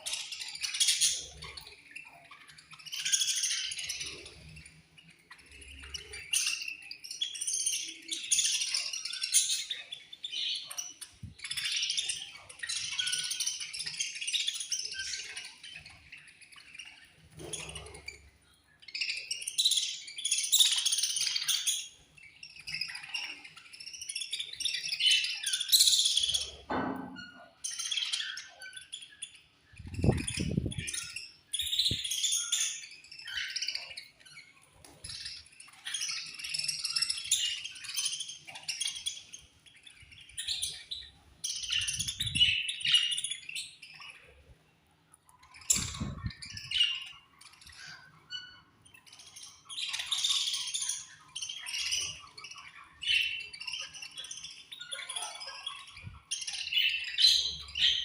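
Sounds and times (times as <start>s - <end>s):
budgerigars chirping: 0.0s - 44.5s, 45.2s - 58.0s.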